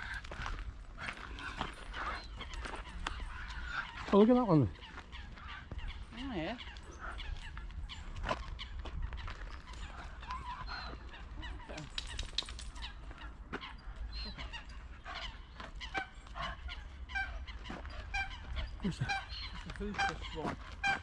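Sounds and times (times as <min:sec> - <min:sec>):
waterfowl calling: 0:00.0 - 0:21.0.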